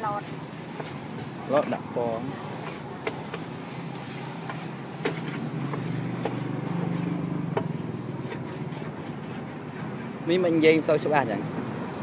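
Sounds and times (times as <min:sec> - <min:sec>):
vehicle engine hum: 0:00.0 - 0:12.0
metal spatula scraping wok: 0:00.1 - 0:10.2.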